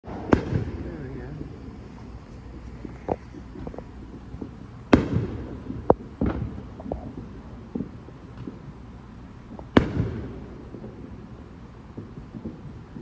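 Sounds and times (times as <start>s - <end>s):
fireworks bangs: 0.0s - 13.0s
small fireworks pops: 0.1s - 8.8s, 9.4s - 13.0s.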